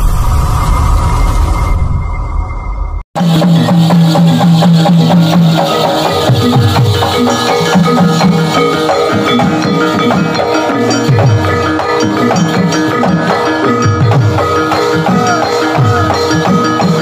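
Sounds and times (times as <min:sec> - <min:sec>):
gamelan music: 0:03.2 - 0:17.0.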